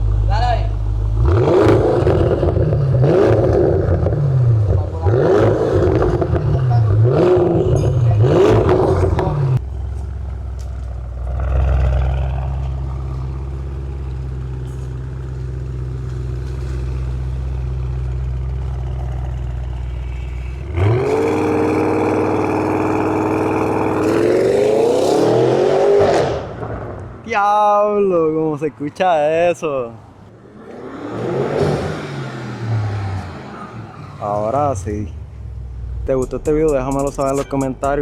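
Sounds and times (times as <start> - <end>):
car engine revving and idling: 0.0 - 27.2, 30.1 - 38.0.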